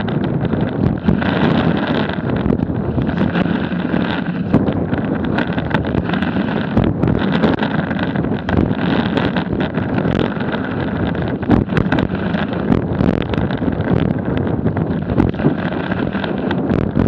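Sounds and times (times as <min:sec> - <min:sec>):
snowboard scraping over snow: 0:00.0 - 0:17.0
wind buffeting microphone: 0:00.0 - 0:17.0.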